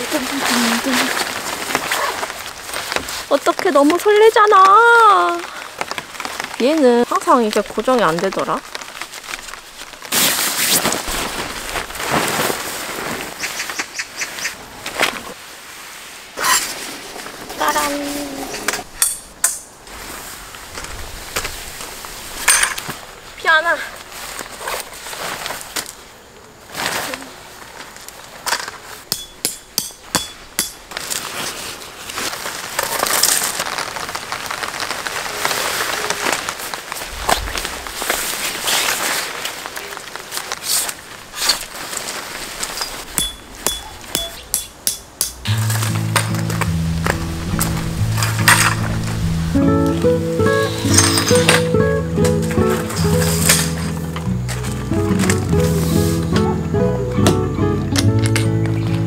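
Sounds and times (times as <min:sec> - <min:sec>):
tarp rustling: 0:00.0 - 0:13.8, 0:14.7 - 0:19.0, 0:19.7 - 0:29.1, 0:30.4 - 0:44.5, 0:45.4 - 0:59.0
sharp tarp crackles: 0:00.0 - 0:19.0, 0:19.8 - 0:29.1, 0:30.4 - 0:44.5, 0:45.4 - 0:56.4.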